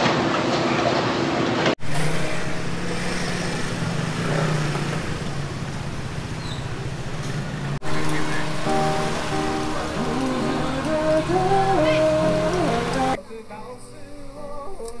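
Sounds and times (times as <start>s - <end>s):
street ambience with low hum: 0.0s - 15.0s.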